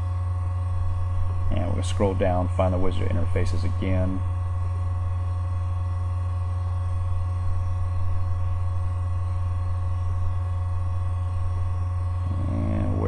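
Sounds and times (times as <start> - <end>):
faint high whine tones: 0.0 - 13.0
low electrical hum: 0.0 - 13.0.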